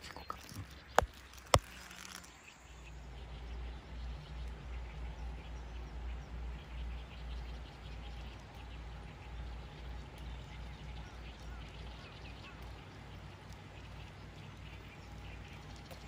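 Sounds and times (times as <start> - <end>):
insects and birds chirping: 0.0 - 16.0.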